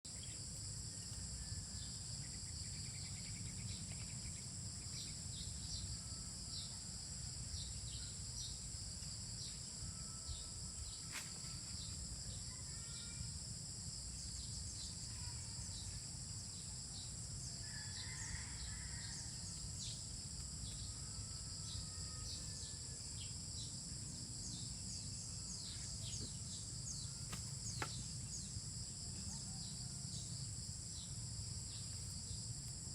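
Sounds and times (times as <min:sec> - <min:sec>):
insect chorus trilling: 0:00.1 - 0:32.9.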